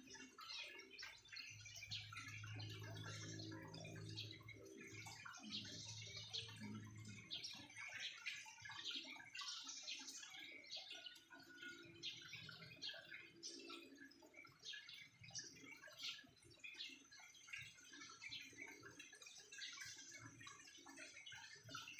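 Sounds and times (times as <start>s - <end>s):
small birds chirping and twittering: 0.0s - 21.9s.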